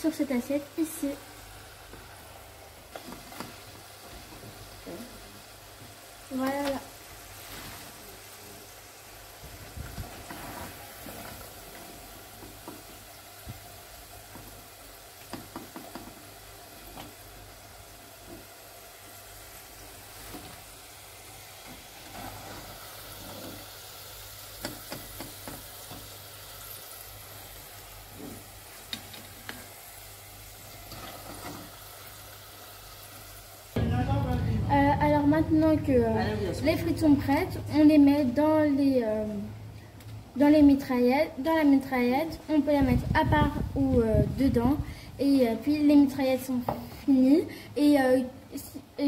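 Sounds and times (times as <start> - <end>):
oil sizzling in saucepan: 0.0 - 49.0.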